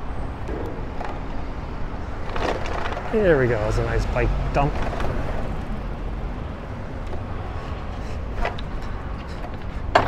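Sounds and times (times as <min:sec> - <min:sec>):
electric scooter rolling on pavement: 0:01.0 - 0:10.0.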